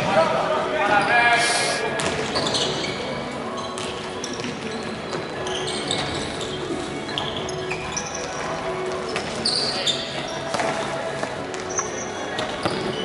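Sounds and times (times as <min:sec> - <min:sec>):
shoes squeaking on hall floor: 0:00.0 - 0:13.0.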